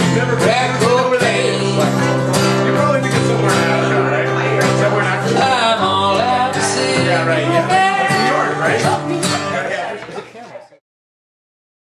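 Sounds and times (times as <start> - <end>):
person singing: 0.0 - 9.6
acoustic guitar strumming: 0.0 - 10.0.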